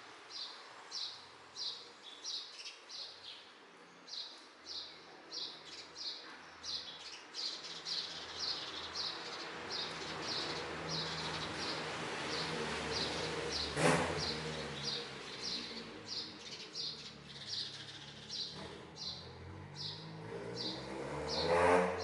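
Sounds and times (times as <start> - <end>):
bird chirping: 0.3 - 21.6.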